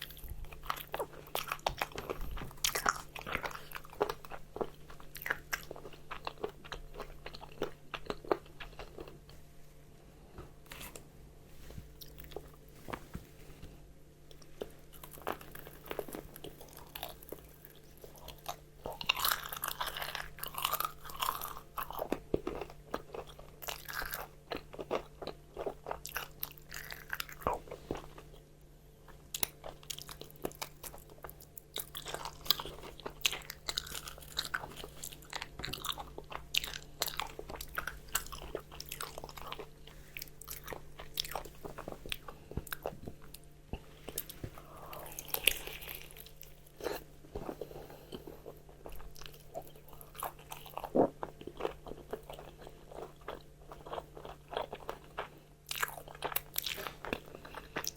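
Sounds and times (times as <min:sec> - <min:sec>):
chewing: 0:00.0 - 0:09.4, 0:14.3 - 0:28.5, 0:29.1 - 0:57.9.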